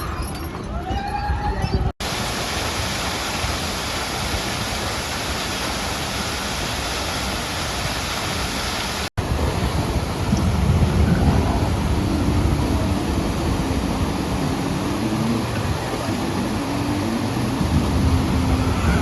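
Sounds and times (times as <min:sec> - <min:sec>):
rushing water of river rapids: 0:02.0 - 0:19.0.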